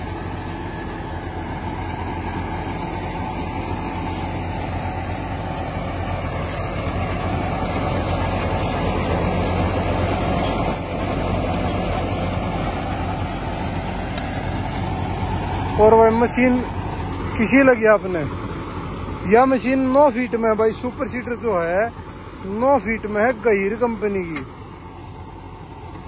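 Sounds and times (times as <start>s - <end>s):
seeder working the soil: 0.0s - 26.0s
tractor diesel engine under load: 0.0s - 26.0s.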